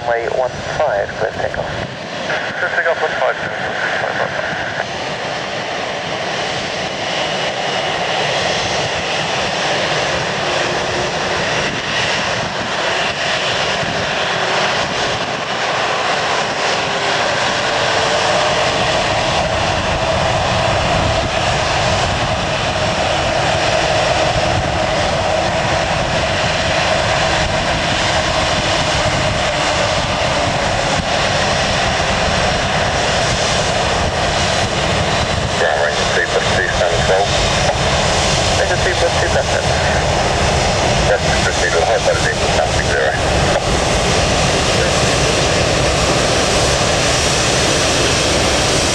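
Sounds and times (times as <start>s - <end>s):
jet engines roaring at takeoff: 0.0s - 48.9s.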